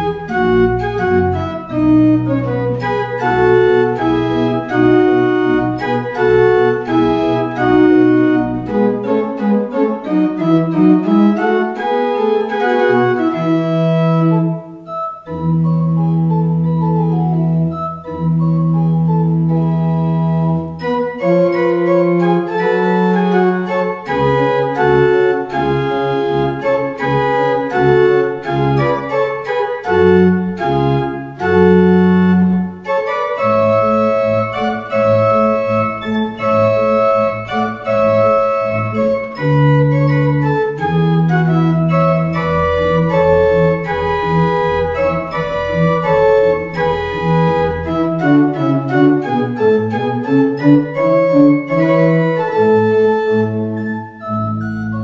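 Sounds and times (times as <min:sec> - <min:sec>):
church organ playing: 0:00.0 - 0:55.0.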